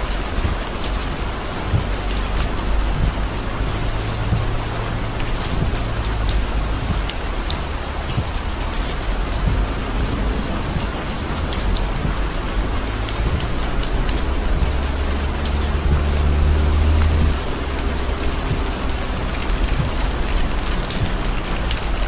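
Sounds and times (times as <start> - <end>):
heavy rain on car roof: 0.0 - 22.0
moving car low hum: 0.0 - 22.0
raindrops ticking on glass: 0.0 - 22.0.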